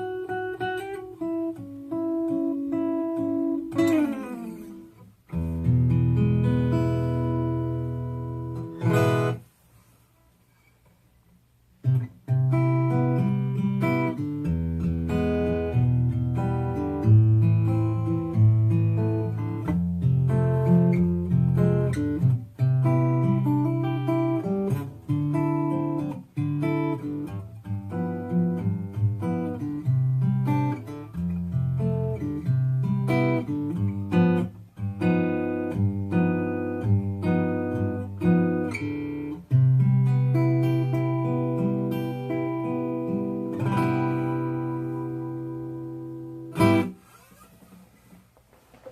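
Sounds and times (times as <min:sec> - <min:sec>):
acoustic guitar strumming: 0:00.0 - 0:09.6, 0:11.8 - 0:48.9
finger-picked acoustic guitar: 0:00.0 - 0:48.9.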